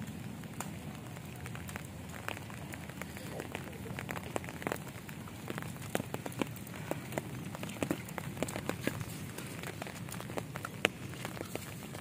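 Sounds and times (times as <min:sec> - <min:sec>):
rain falling: 0:00.0 - 0:12.0
raindrops ticking on hard surfaces: 0:00.0 - 0:12.0.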